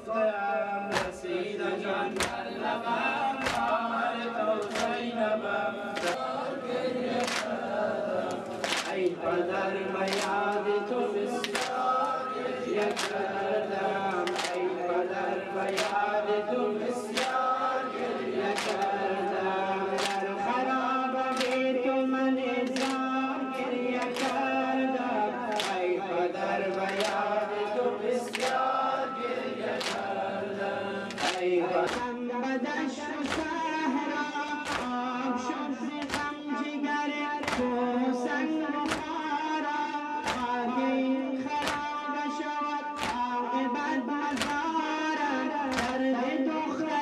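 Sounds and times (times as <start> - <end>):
group of voices chanting: 0.7 - 47.0.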